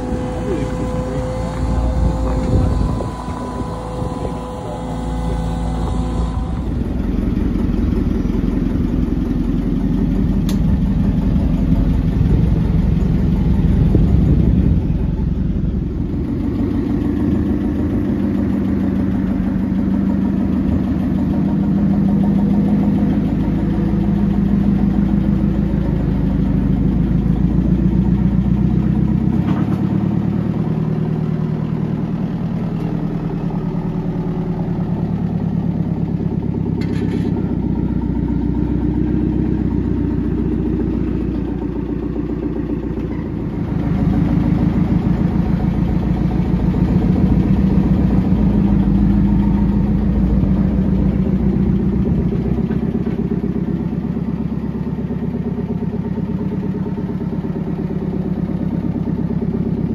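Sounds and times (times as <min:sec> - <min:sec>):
forklift engine running: 0:00.0 - 0:59.9.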